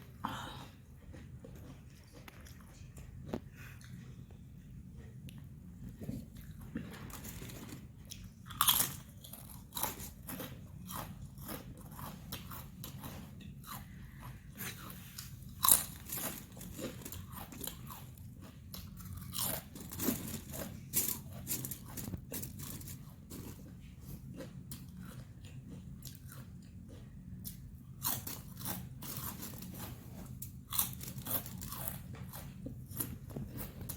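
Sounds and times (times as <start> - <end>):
crunching and chewing chips: 0.0 - 33.9.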